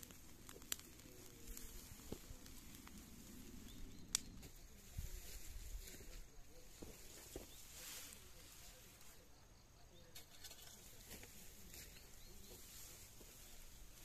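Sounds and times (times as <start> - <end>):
faint ticks and rustles of smouldering grass: 0.0 - 14.0.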